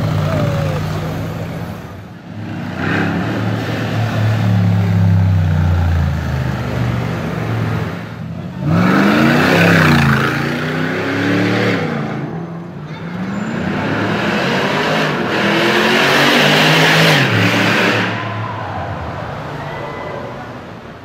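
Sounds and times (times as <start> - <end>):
car engine with loud exhaust revving: 0.0 - 19.6.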